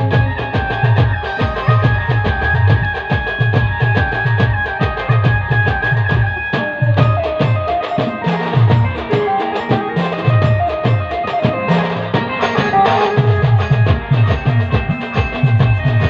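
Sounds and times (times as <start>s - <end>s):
electronic keyboard melody: 0.0s - 16.0s
fast drum rhythm: 0.0s - 16.0s.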